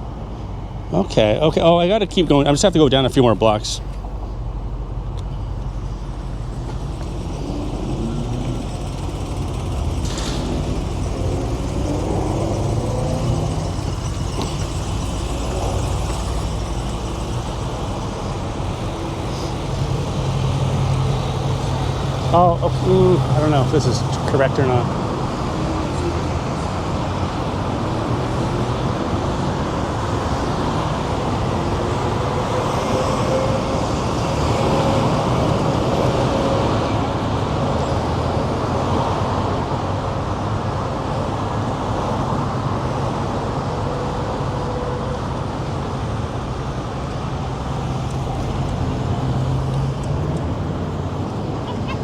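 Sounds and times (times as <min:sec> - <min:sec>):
vehicles passing on street: 0:00.0 - 0:52.0.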